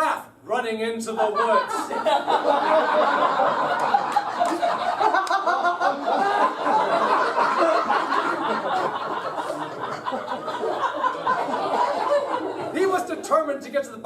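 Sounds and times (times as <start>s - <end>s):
audience laughing: 1.2s - 13.2s.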